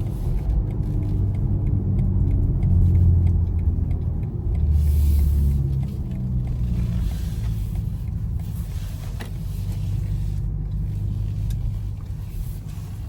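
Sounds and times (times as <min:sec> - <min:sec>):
electric drivetrain hum: 0:00.0 - 0:13.0
tyre and road noise: 0:00.0 - 0:13.0.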